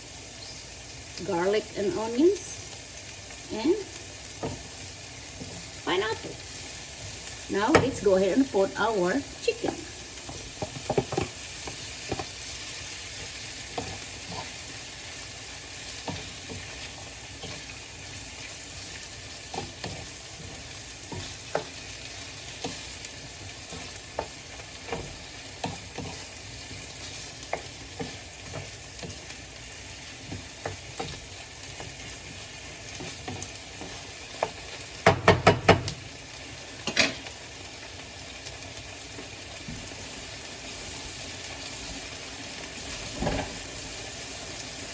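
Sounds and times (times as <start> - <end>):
chicken sizzling in hot oil: 0.0 - 44.9.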